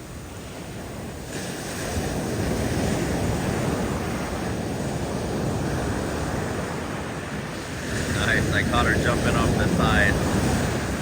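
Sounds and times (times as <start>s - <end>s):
ocean surf rushing: 1.5s - 11.0s.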